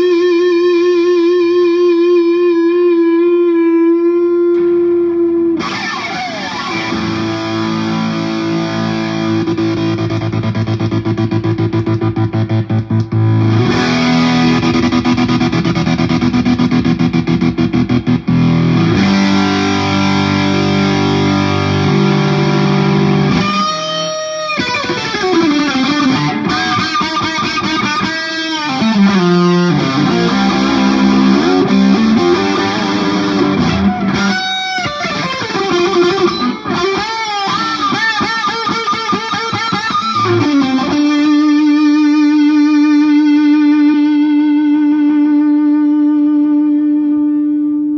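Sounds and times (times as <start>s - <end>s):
distorted electric guitar: 0.0s - 47.9s.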